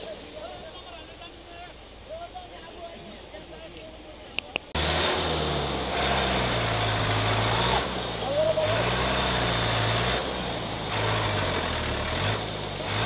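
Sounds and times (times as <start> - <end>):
bus engine labouring: 0.0 - 13.0
water rushing against wheels: 0.0 - 13.0.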